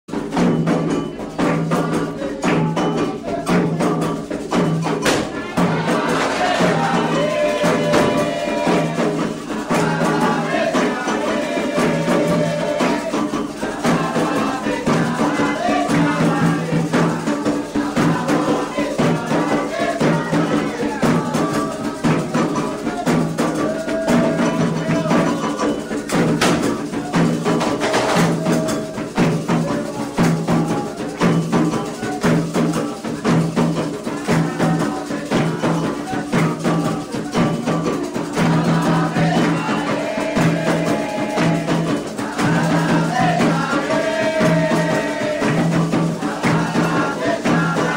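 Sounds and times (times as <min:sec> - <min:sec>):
hand drums in driving rhythm: 0:00.1 - 0:47.9
sharp clicking percussion: 0:00.1 - 0:47.9.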